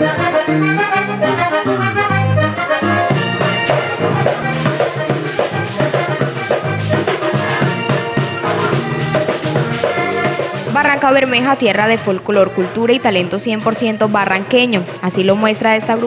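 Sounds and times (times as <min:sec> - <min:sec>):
bass line: 0:00.0 - 0:16.0
button accordion melody: 0:00.0 - 0:16.0
scraper and drum rhythm: 0:03.0 - 0:16.0.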